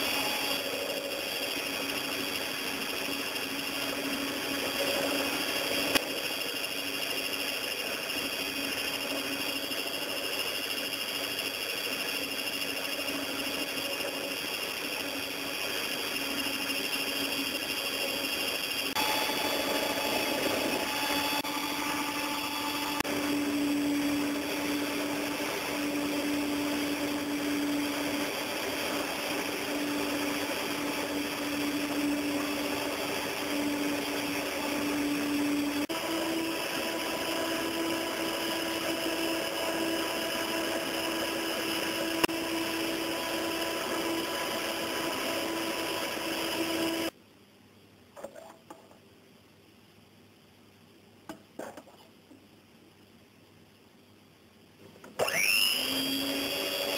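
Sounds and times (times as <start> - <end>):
electric hand mixer whine: 0.0 - 47.2, 55.1 - 56.9.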